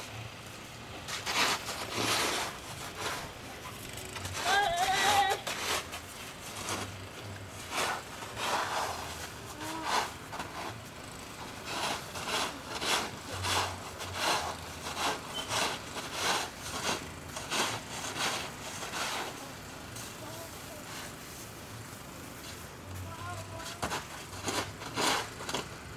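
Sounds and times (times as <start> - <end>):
shovel scraping snow: 0.5 - 25.9.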